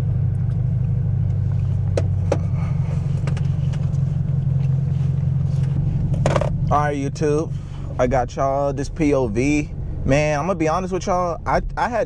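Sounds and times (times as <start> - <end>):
car engine and exhaust running: 0.0 - 12.0.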